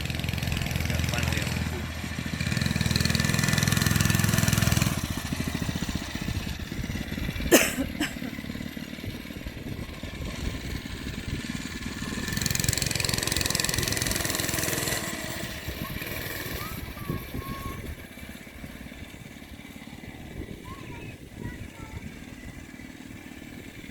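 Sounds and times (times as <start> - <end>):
mini bike engine running: 0.0 - 23.9.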